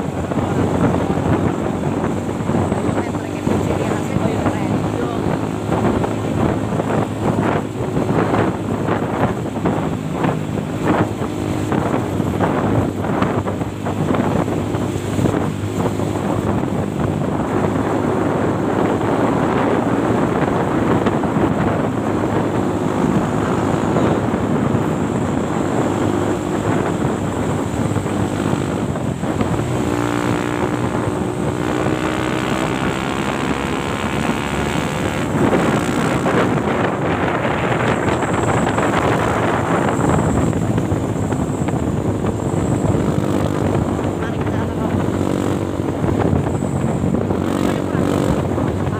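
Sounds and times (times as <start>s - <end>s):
heavy truck engine under load: 0.0s - 48.9s
wind buffeting microphone: 0.0s - 48.9s.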